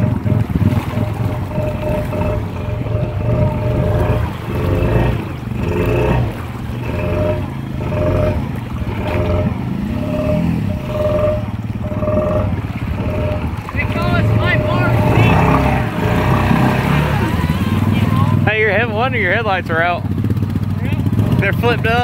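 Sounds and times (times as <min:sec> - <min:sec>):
atv engine revving under load: 0:00.0 - 0:22.0.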